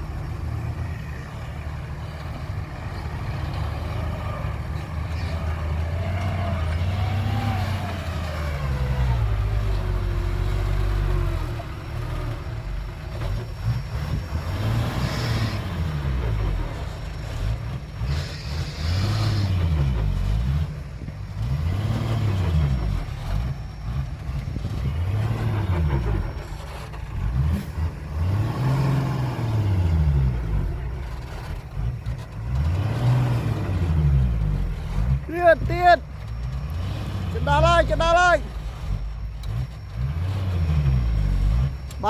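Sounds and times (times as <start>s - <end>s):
heavy diesel engine revving: 0.0s - 42.0s.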